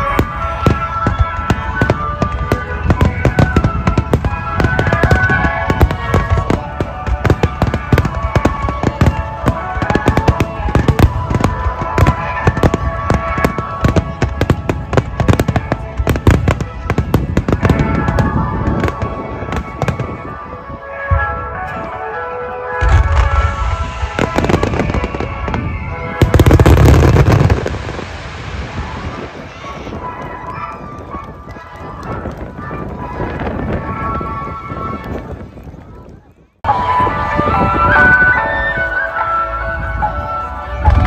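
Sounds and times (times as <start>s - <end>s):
music playing: 0.0s - 35.1s, 36.6s - 41.0s
firework bangs and crackles: 0.0s - 38.8s, 39.7s - 41.0s.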